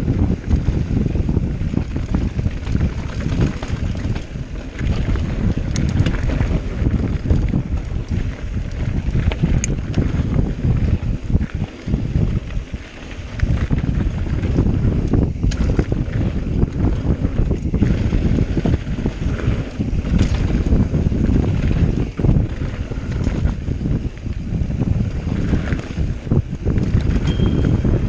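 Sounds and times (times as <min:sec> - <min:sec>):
bike clicks and rattles: 0:00.0 - 0:28.0
tyre noise on dirt trail: 0:00.0 - 0:28.0
wind buffeting microphone: 0:00.0 - 0:28.0.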